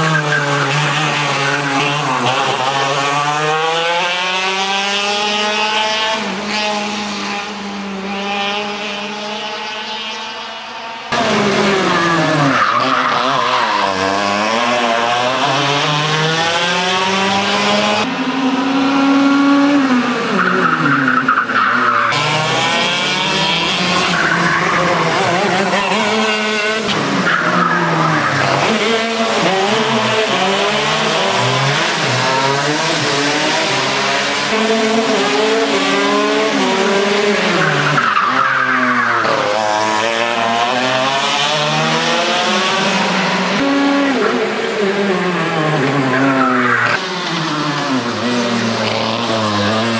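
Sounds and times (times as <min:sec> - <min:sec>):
go-kart engines running hard: 0:00.0 - 0:49.9.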